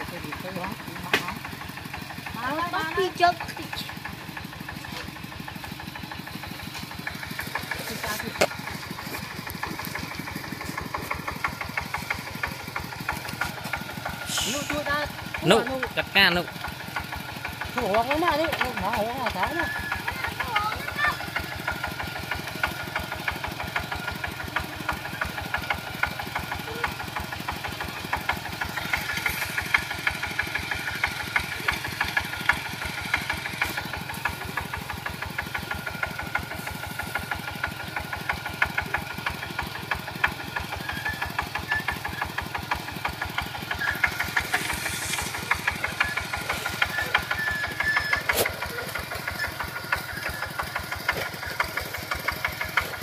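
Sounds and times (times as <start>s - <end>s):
diesel tractor engine chugging: 0.0s - 53.0s.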